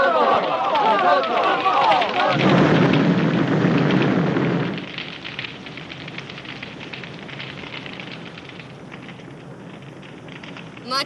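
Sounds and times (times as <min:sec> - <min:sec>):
steady crackling: 0:00.0 - 0:11.0.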